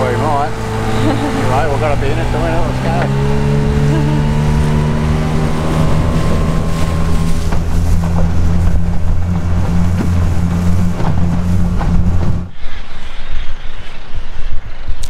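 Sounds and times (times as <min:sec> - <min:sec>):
outboard motor running: 0:00.0 - 0:12.6
water rushing past hull: 0:00.0 - 0:13.8
wind on microphone: 0:00.0 - 0:15.0.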